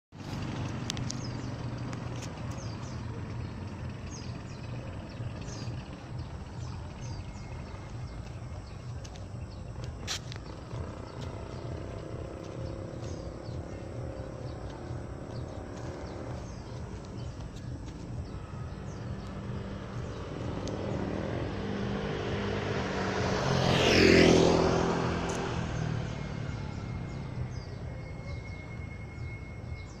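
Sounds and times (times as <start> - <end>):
motor vehicle passing: 0.1 - 30.0
street background noise: 0.1 - 30.0.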